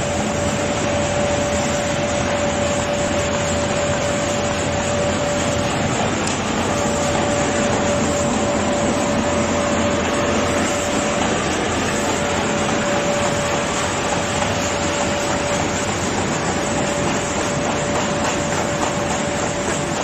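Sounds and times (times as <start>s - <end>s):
constant machine whine: 0.0s - 20.0s
machine clatter of belts and rollers: 0.0s - 20.0s.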